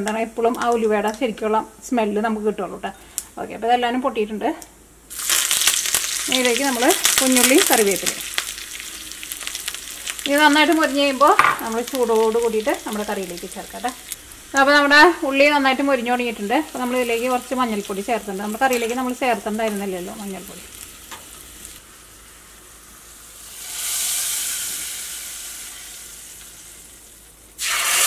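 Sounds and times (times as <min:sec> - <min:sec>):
onion sizzling in hot oil: 0:05.1 - 0:28.0.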